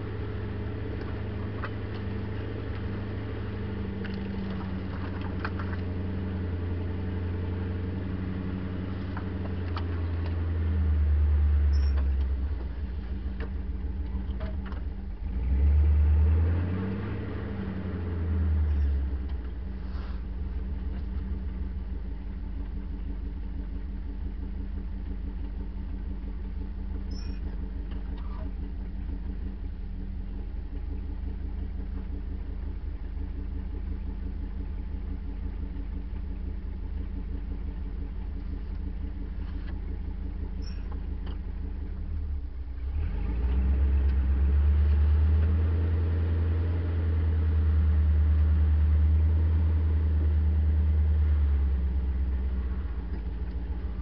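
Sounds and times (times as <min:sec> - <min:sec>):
engine running at low revs: 0:00.0 - 0:54.0.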